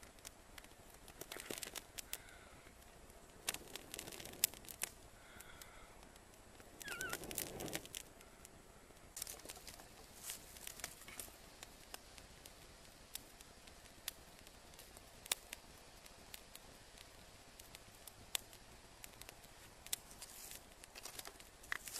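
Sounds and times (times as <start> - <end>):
campfire crackling: 0.0 - 21.9
sharp pops of fire: 0.0 - 21.9.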